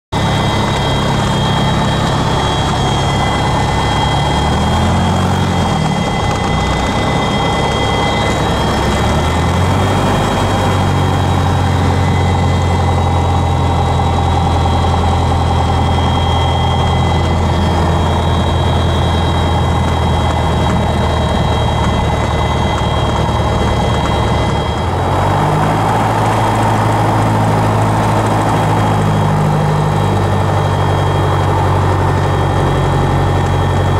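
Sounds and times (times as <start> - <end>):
propeller plane engine drone: 0.1 - 33.9.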